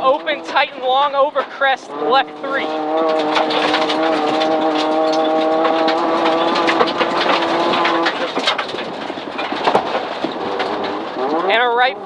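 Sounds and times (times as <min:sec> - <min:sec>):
car engine under load: 0:00.0 - 0:12.0
gravel pinging against car: 0:00.0 - 0:12.0
road noise: 0:00.0 - 0:12.0.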